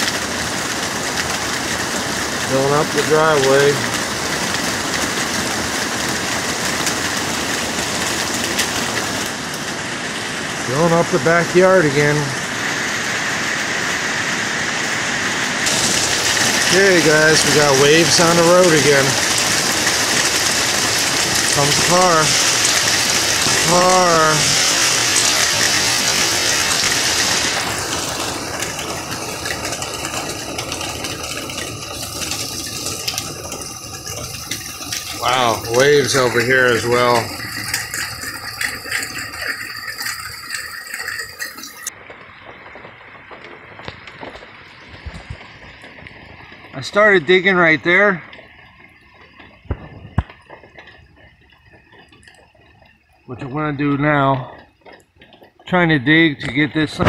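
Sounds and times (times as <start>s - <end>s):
car tyres through water: 0.0s - 57.0s
heavy rain downpour: 0.0s - 57.0s.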